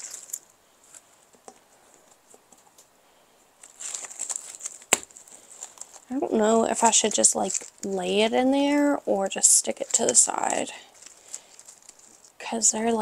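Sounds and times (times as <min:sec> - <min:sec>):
plastic leaves rustling: 0:00.0 - 0:02.4, 0:03.6 - 0:13.0.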